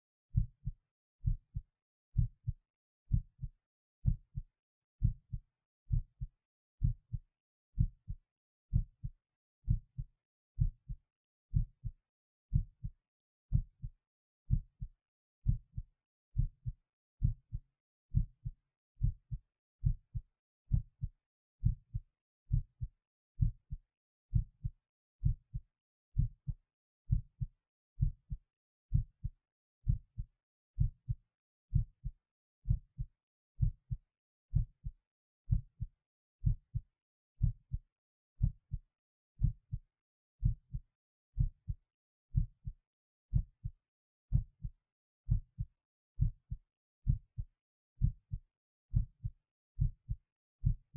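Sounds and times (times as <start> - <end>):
human heartbeat: 0.3 - 7.2, 7.8 - 37.8, 38.4 - 40.8, 41.4 - 50.9.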